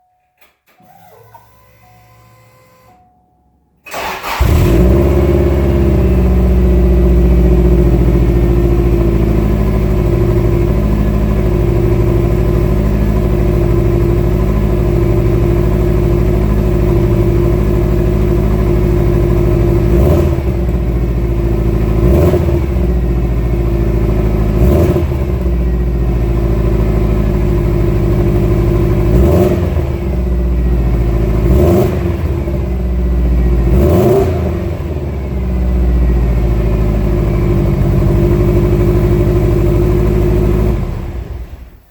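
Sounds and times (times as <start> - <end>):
car engine starting and idling: 0.4 - 3.1, 3.8 - 41.9
engine throttle blips: 3.8 - 41.9.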